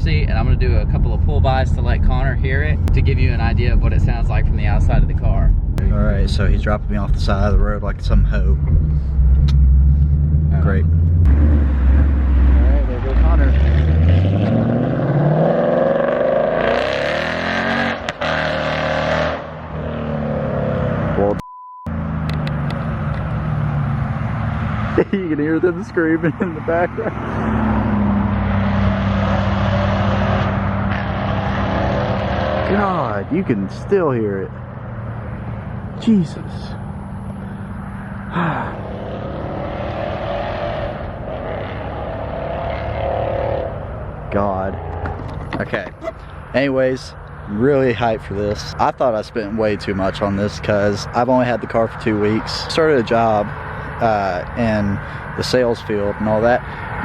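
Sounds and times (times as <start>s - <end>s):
car engine accelerating: 0.0s - 56.6s.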